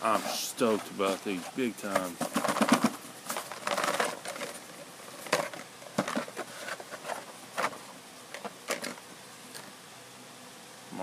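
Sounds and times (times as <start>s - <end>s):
cardboard rustling and scraping: 0.0s - 9.1s.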